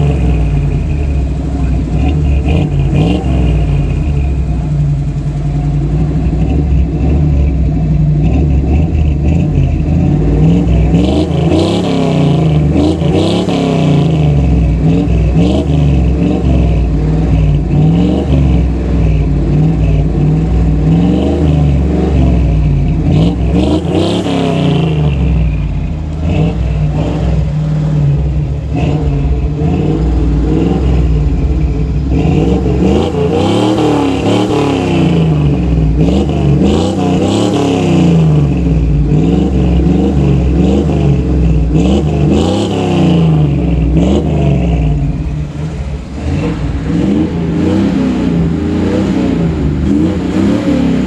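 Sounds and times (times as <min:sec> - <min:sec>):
engine revving through exhaust: 0:00.0 - 0:51.0.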